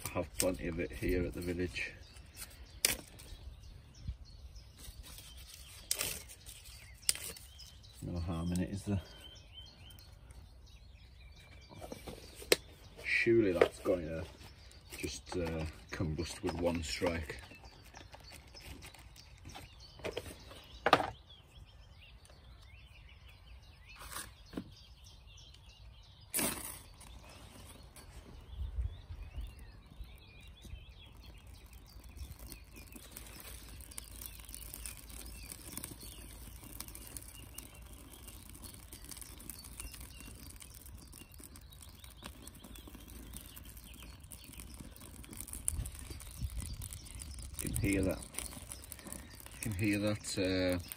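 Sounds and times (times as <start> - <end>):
birch bark crackling as it burns: 0.0 - 50.9.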